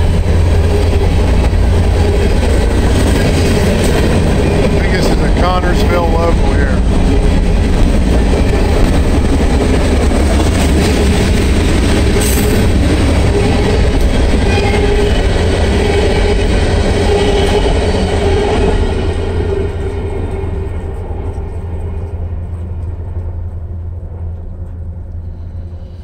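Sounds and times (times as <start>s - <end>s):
freight cars rumbling past: 0.0s - 26.0s.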